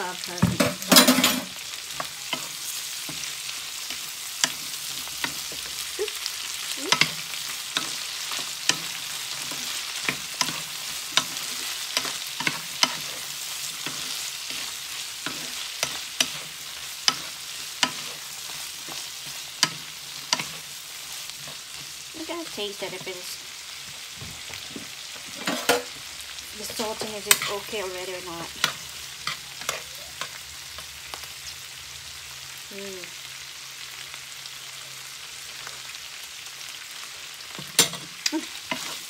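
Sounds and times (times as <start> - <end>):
food sizzling in a frying pan: 0.0 - 39.0.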